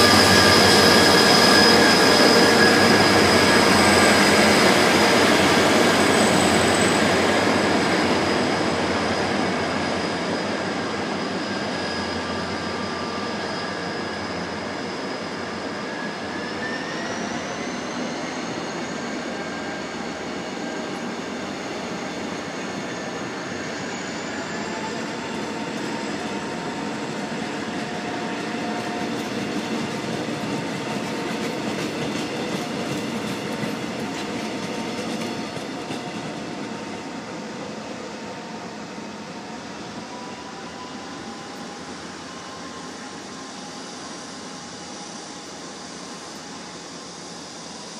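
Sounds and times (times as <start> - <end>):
train coaches rolling on rails: 0.0 - 47.8.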